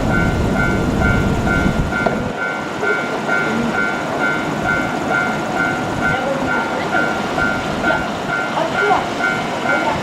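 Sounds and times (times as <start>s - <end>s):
freight train rumbling on rails: 0.0s - 10.0s
level-crossing warning bell: 0.0s - 10.0s.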